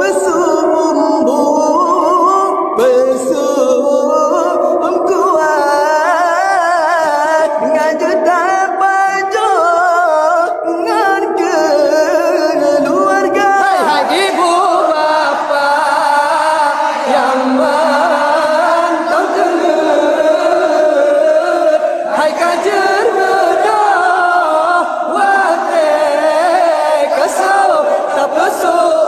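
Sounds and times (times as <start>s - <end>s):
voices singing wavering chant: 0.0s - 29.0s.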